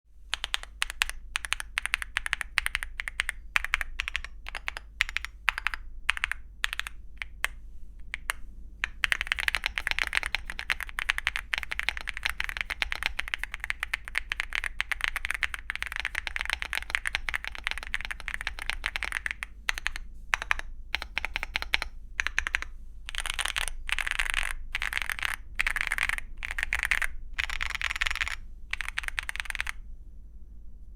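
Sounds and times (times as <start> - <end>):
mechanical keyboard typing: 0.3 - 29.8.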